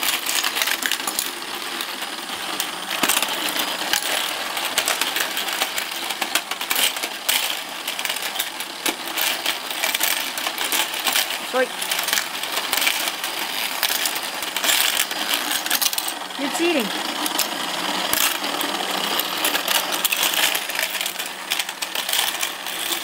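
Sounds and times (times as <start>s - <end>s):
plastic toy clicking and clattering: 0.0s - 23.0s.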